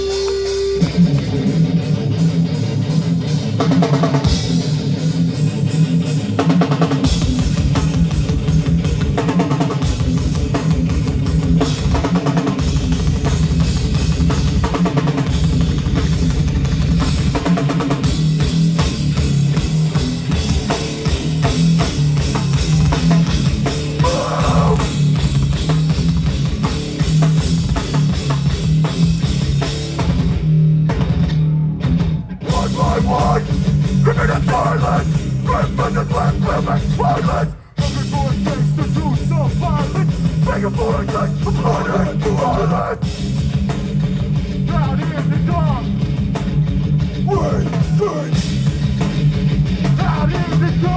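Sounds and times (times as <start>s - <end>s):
live rock band playing: 0.0s - 50.9s
steady drum beat: 0.0s - 50.9s.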